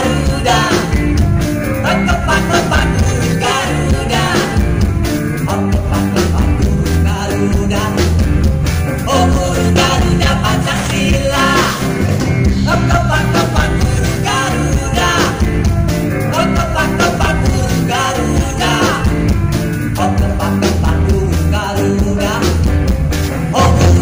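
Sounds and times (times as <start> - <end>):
man singing: 0.0 - 24.0
pop-rock band playing: 0.0 - 24.0.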